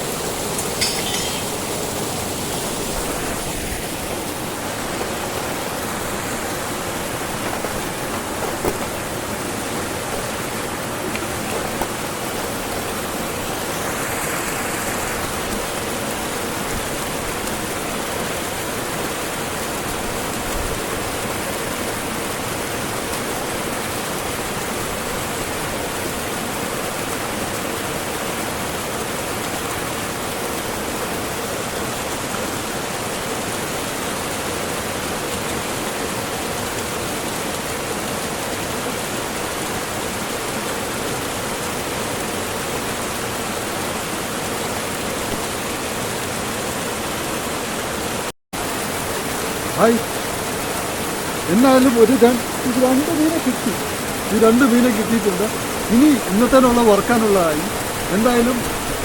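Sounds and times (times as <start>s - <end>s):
waterfall and river rushing: 0.0s - 59.0s.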